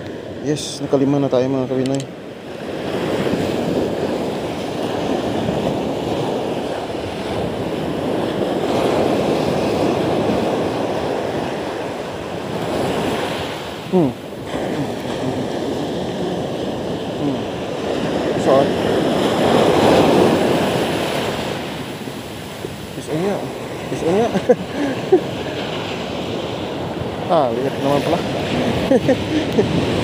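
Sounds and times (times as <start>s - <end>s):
surf breaking on beach: 2.6s - 30.0s.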